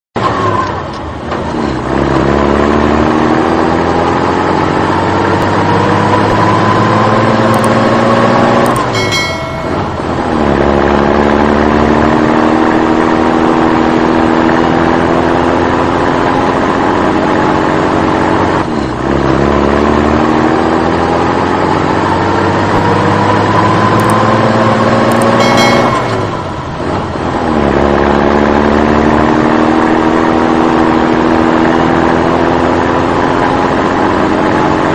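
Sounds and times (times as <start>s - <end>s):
truck engine accelerating: 0.2s - 34.9s.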